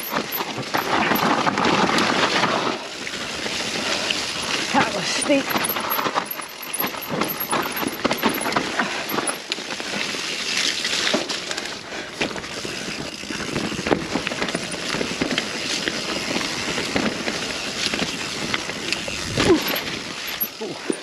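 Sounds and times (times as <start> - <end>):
bike rattling and knocking: 0.0 - 21.0
bike tyres rolling over dirt: 0.0 - 21.0.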